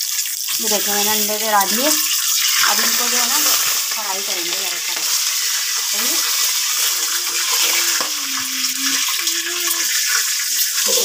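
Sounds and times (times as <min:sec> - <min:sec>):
eggs sizzling in hot oil: 0:00.0 - 0:11.0.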